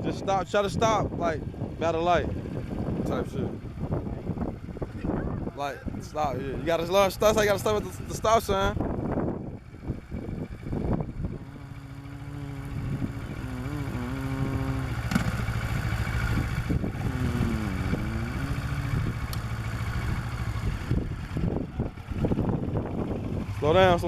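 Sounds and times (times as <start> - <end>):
motorcycle engine under throttle: 0.3 - 24.0.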